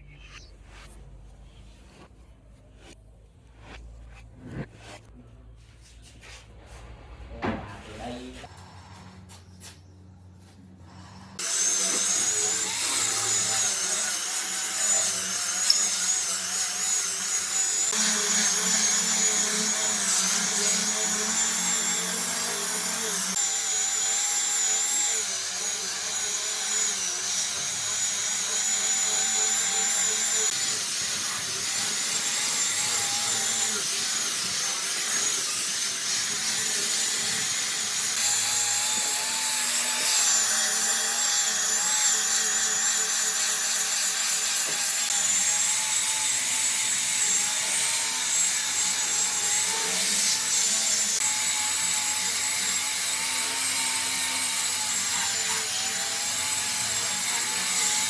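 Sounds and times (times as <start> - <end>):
power tool whining on wood: 11.3 - 58.0.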